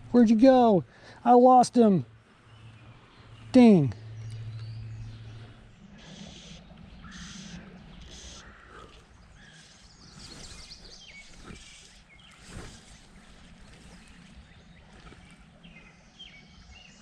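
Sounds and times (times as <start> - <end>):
birds chirping and singing: 0.0 - 17.0
river flowing: 0.0 - 17.0.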